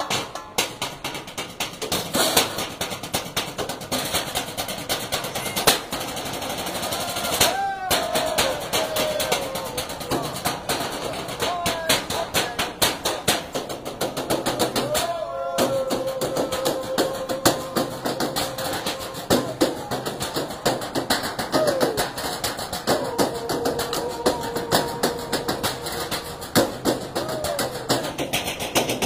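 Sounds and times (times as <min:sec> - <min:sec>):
drumming on metal trash cans: 0:00.0 - 0:29.0.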